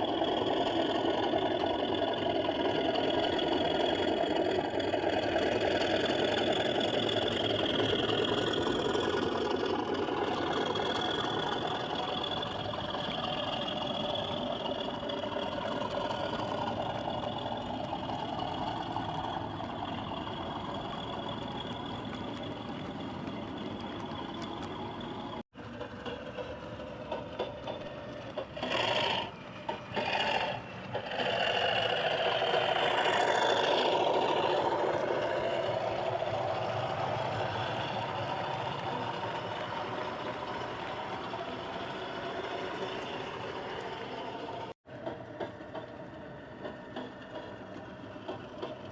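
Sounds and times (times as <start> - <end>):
model train diesel engine sound: 0.0 - 48.9.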